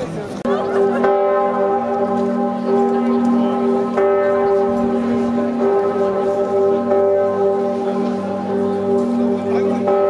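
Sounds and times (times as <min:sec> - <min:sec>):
church bells ringing: 0:00.4 - 0:10.0.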